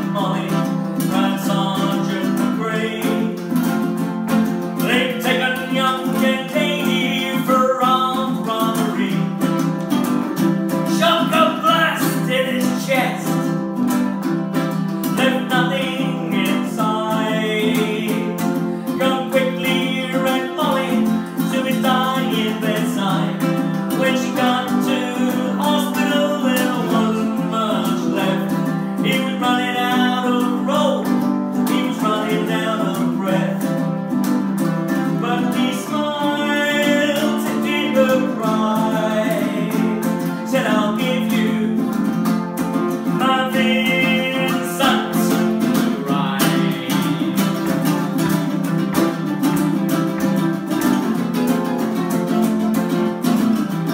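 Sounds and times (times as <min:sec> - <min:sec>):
ukuleles picking and strumming: 0:00.0 - 0:53.9.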